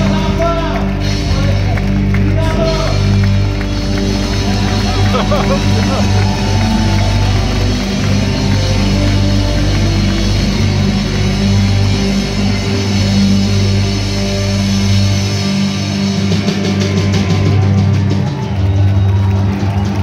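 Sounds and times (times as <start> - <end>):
rock band playing live: 0.0 - 20.0.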